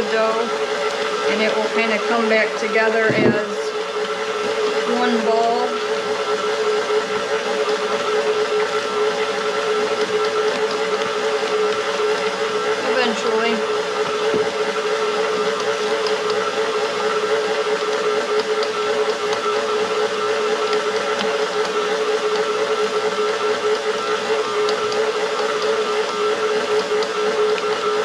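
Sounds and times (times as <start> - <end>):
stand mixer motor whining: 0.0 - 28.0.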